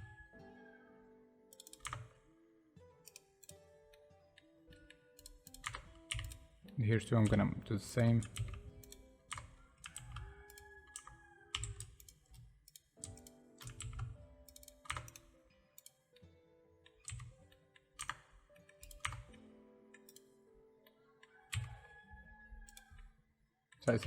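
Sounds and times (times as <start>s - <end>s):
soft background music: 0.0s - 23.2s
keyboard keys tapping: 1.5s - 2.3s, 3.0s - 16.0s, 16.9s - 23.2s.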